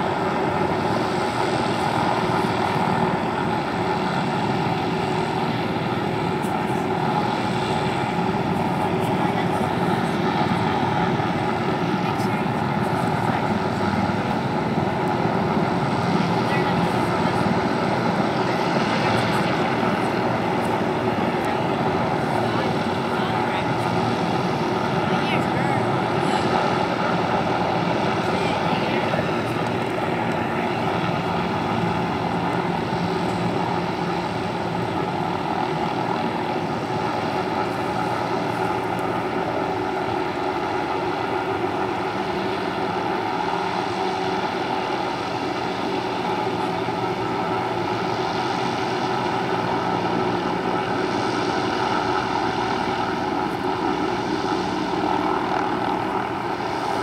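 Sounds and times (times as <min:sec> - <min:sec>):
helicopter droning: 0:00.0 - 0:57.0.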